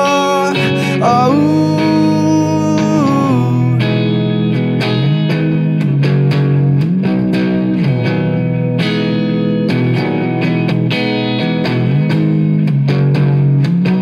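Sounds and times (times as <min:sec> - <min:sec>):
electric guitar strumming chords: 0:00.0 - 0:14.0.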